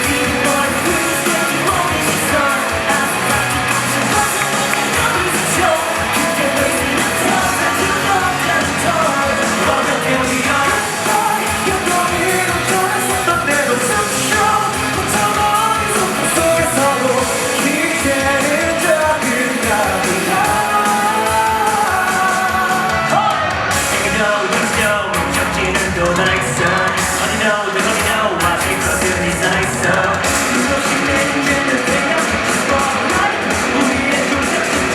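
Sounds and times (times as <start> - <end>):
drum beat: 0.0 - 34.9
person singing: 0.0 - 34.9
rock band playing live: 0.0 - 34.9.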